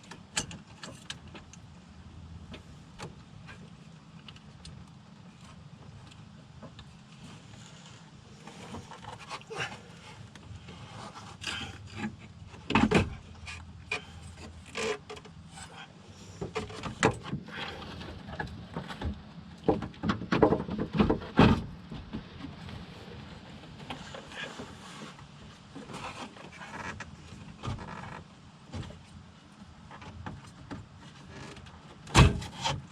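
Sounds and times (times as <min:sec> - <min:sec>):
car parts clicking and rattling: 0:00.0 - 0:22.9, 0:23.7 - 0:32.9.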